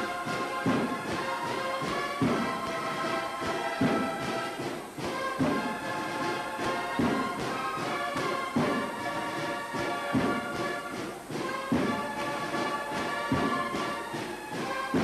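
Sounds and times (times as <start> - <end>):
heavy drum beat: 0.0 - 15.0
held brass notes: 0.0 - 15.0.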